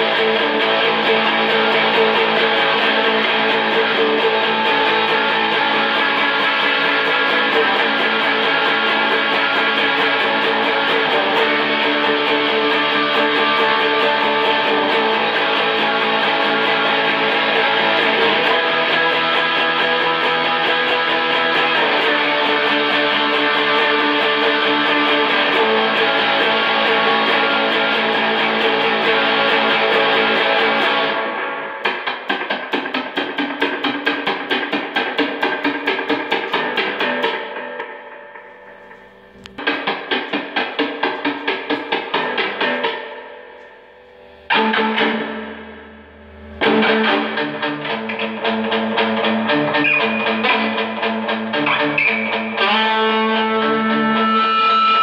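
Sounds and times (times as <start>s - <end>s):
electric guitar strummed fast: 0.0s - 55.0s.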